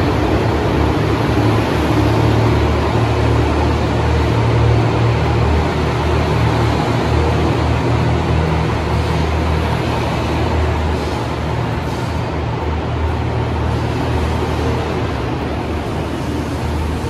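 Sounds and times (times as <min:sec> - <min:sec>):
diesel train engine drone: 0:00.0 - 0:17.0
train running rumble: 0:00.0 - 0:17.0.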